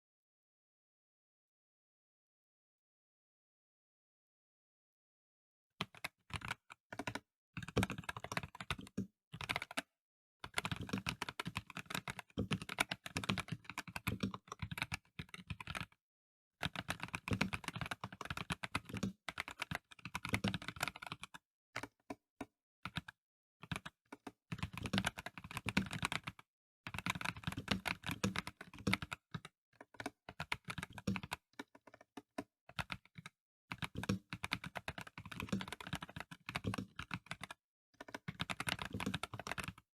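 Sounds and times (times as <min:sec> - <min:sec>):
mechanical keyboard typing: 0:05.8 - 0:16.0, 0:16.6 - 0:22.2, 0:22.9 - 0:39.8.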